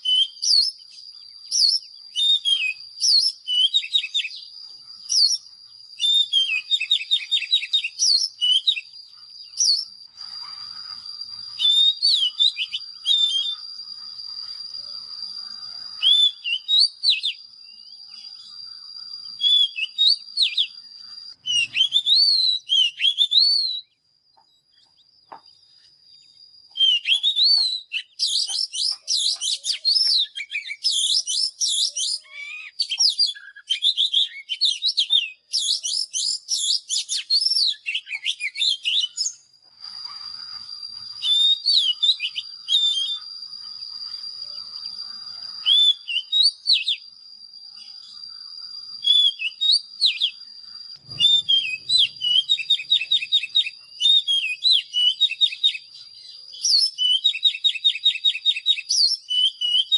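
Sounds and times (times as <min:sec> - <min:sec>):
bird singing whistled trills: 0:00.0 - 0:59.9.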